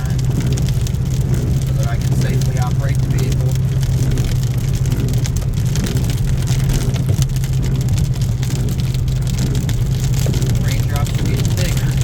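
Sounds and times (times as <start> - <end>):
car engine and road drone: 0.0 - 12.0
raindrops ticking on car: 0.0 - 12.0.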